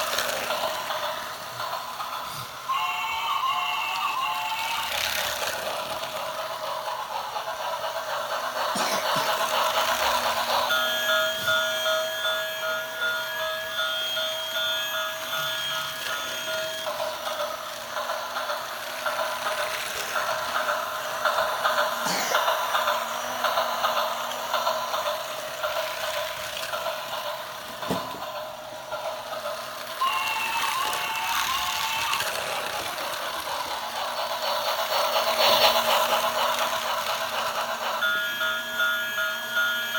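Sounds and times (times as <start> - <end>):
toy train rattling: 0.0 - 39.9.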